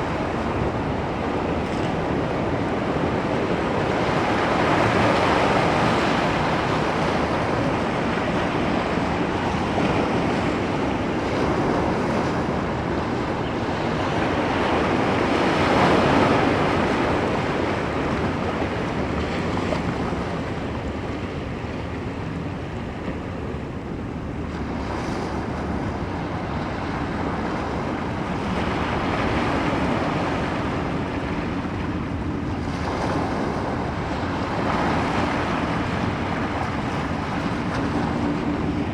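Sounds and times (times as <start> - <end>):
ocean waves breaking on shore: 0.0 - 38.9
wind rumbling on microphone: 0.0 - 38.9.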